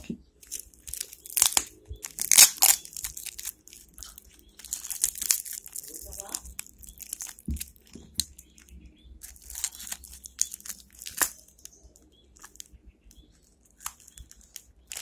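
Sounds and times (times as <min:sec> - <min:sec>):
package wrapping crinkling and tearing: 0:00.0 - 0:08.6, 0:09.2 - 0:11.8, 0:12.4 - 0:15.0.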